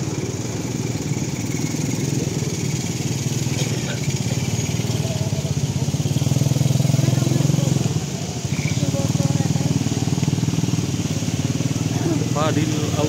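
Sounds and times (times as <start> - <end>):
engine running with pulsing rumble: 0.0 - 13.0.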